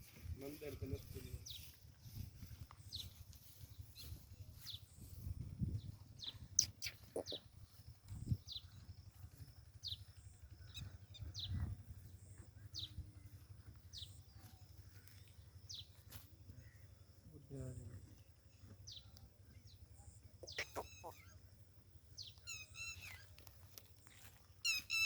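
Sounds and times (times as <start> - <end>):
bird chirping: 0.4 - 25.0.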